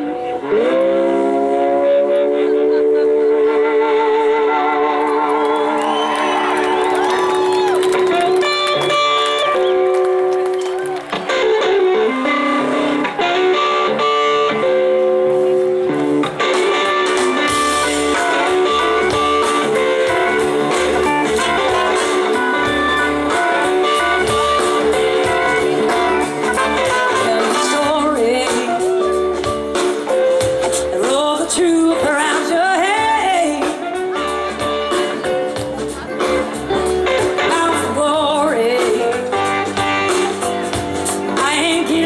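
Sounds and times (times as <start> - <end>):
bending lead guitar line: 0.0 - 42.0
blues-rock band playing: 0.0 - 42.0.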